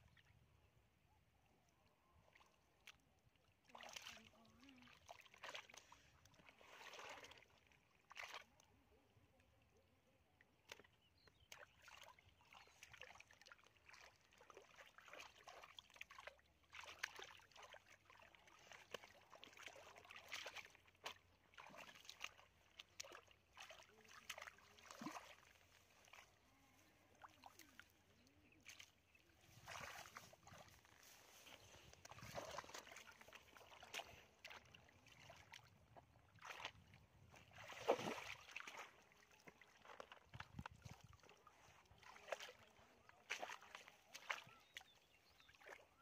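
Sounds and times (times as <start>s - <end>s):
faint splashing in muddy water: 0.0s - 46.0s.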